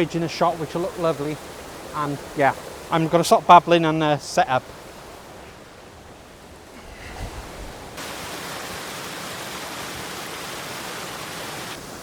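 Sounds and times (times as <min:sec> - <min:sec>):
waterfall rushing: 0:00.0 - 0:05.4, 0:06.4 - 0:12.0
wind: 0:00.0 - 0:12.0.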